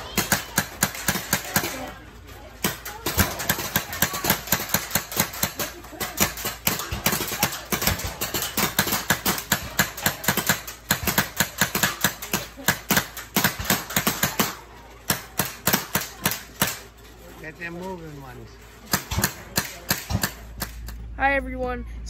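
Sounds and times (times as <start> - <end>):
paintball guns firing: 0.0 - 2.0, 2.6 - 17.0, 18.8 - 21.0.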